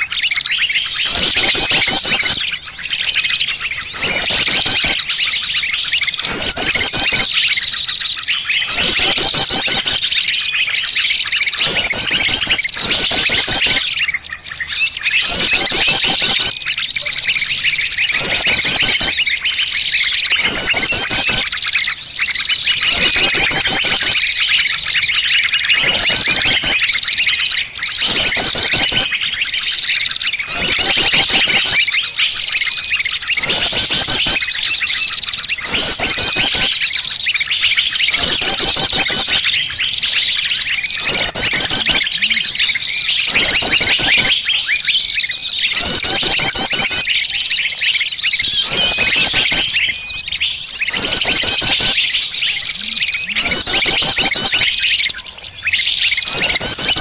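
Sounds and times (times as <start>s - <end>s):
fast high bird trill: 0.0s - 57.0s
small birds chirping chatter: 0.0s - 57.0s.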